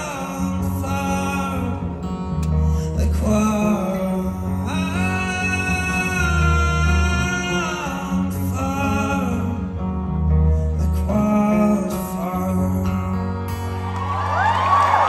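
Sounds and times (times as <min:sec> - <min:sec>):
man singing: 0:00.0 - 0:13.6
bass line: 0:00.0 - 0:15.0
electric guitar: 0:00.0 - 0:15.0.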